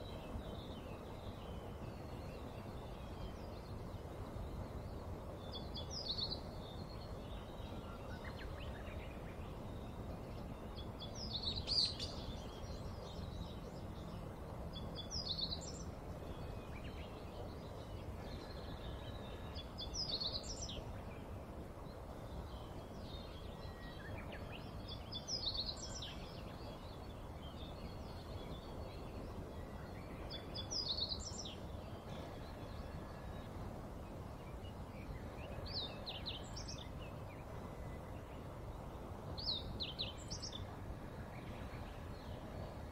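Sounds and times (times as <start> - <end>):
bird chirping: 0.0 - 21.3, 21.9 - 42.9
low background noise: 0.0 - 42.9.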